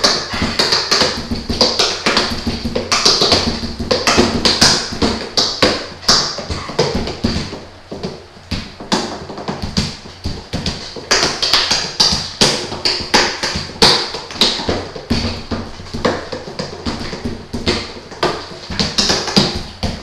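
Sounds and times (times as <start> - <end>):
fingers drumming on armrests: 0.0 - 20.0.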